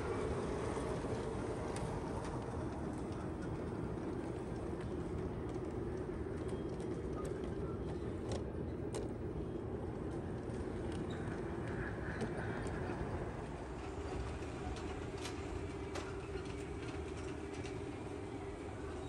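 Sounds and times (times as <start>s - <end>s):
model train wheels rumbling on rails: 0.0s - 19.0s.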